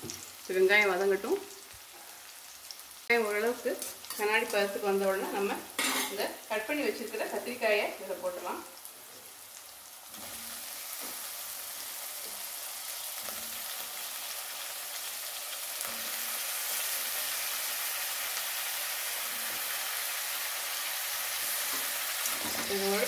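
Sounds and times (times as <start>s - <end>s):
hot oil sizzling: 0.0s - 23.0s.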